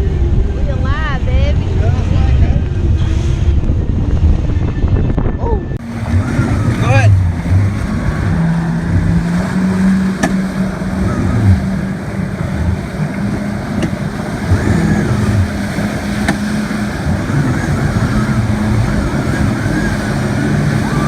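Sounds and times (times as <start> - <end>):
motorboat engine running: 0.0 - 21.0
rushing wind: 0.0 - 21.0
water noise: 0.0 - 21.0.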